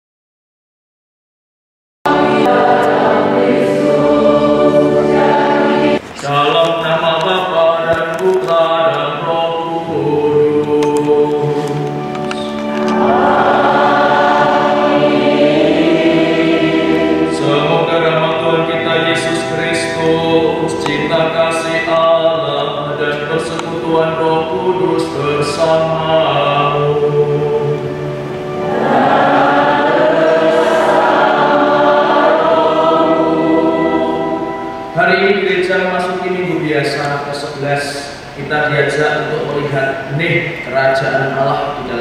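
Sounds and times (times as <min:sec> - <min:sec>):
group singing a hymn: 0:02.1 - 0:35.9.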